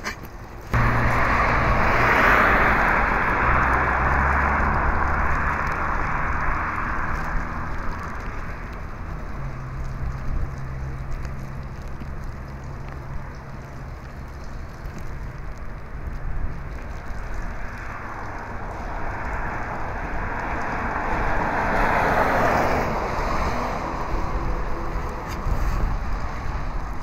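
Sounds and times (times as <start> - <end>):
vehicle engine running low: 0.0 - 27.0
tyres hissing on wet road: 0.6 - 27.0.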